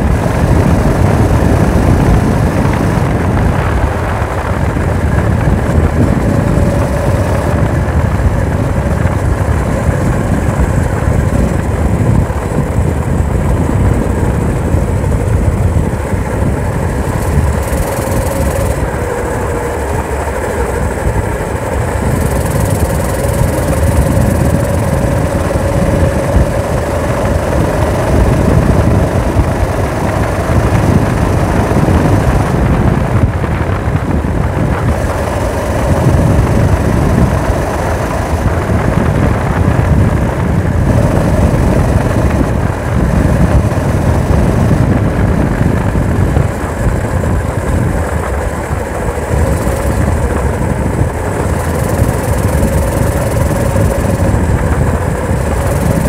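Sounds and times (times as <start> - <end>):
motorized bicycle engine running: 0.0 - 56.0.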